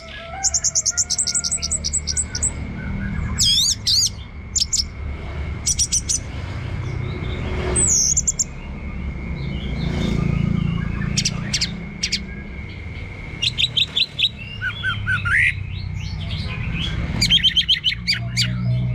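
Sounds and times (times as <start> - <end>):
thrush singing whistled notes: 0.0 - 5.0, 5.6 - 18.9.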